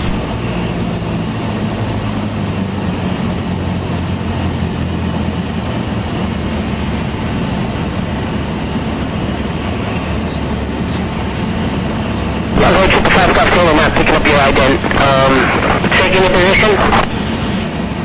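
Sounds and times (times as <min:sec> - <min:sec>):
airplane engine and propeller droning: 0:00.0 - 0:18.0.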